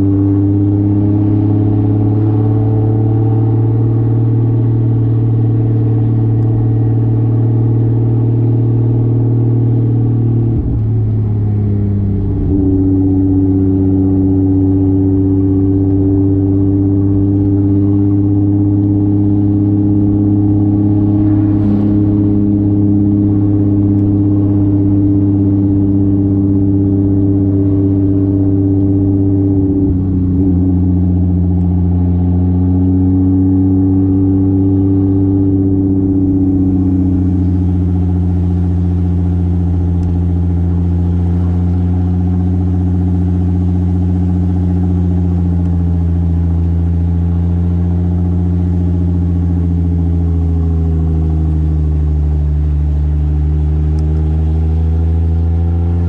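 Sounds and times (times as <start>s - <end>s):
car engine cruising: 0.0s - 56.0s.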